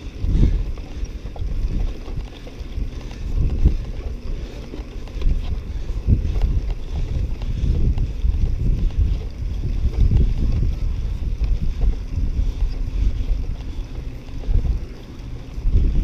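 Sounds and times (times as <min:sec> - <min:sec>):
bike knocks and rattles: 0:00.0 - 0:16.0
wind rumbling on microphone: 0:00.0 - 0:16.0.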